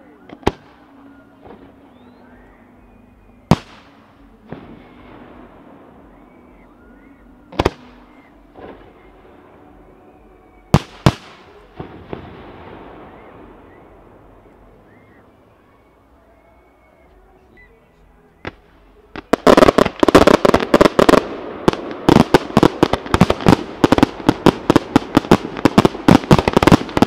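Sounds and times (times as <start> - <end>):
distant firework reports: 0.0 - 17.0, 18.4 - 27.0.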